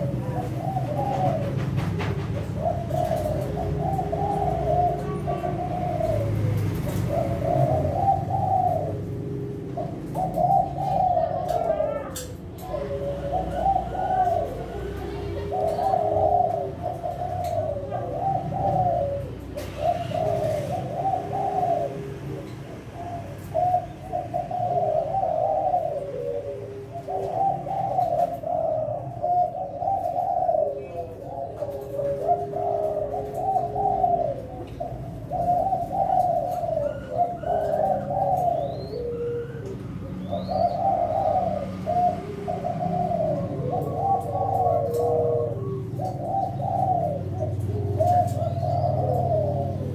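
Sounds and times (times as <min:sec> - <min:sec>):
doves cooing: 0:00.0 - 0:49.9
low drawn-out dove coo: 0:00.0 - 0:49.9.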